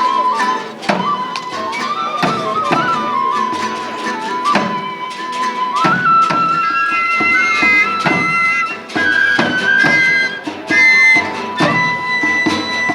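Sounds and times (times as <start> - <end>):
steady drum beat: 0.0 - 12.9
wind instrument long notes: 0.0 - 12.9.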